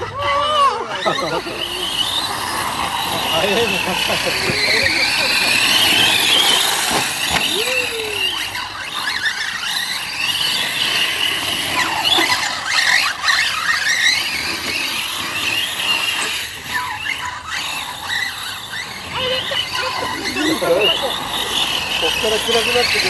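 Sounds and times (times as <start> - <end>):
rc truck motors whining: 0.0 - 23.0.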